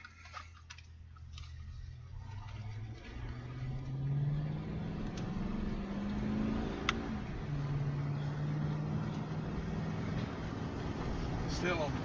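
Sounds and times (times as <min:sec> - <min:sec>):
car engine accelerating: 0:00.9 - 0:12.0.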